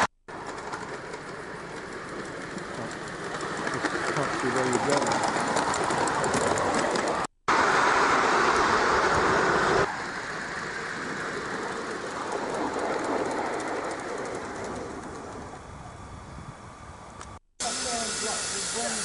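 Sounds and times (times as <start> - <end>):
miniature steam locomotive running: 0.3 - 19.0.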